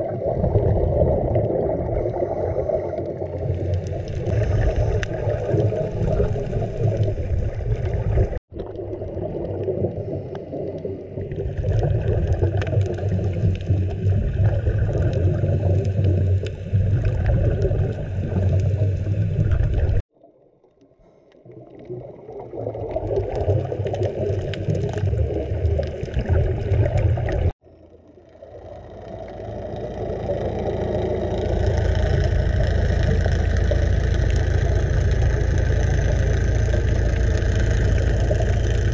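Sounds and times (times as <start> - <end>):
gurgling exhaled bubbles: 0.0 - 38.9
underwater rumble: 0.0 - 38.9.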